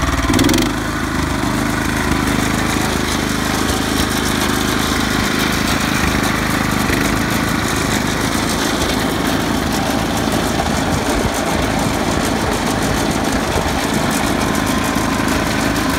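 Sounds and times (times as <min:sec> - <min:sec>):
snowblower engine running: 0:00.0 - 0:15.9.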